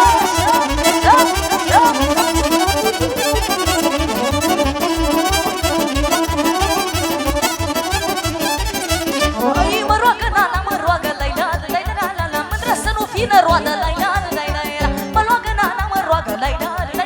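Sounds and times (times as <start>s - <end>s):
accordion party music: 0.0s - 17.0s.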